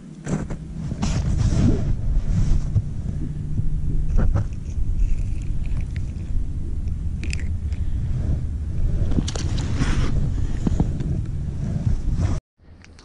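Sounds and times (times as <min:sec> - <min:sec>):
steady low hum: 0:00.0 - 0:13.0
wind buffeting microphone: 0:00.2 - 0:12.4.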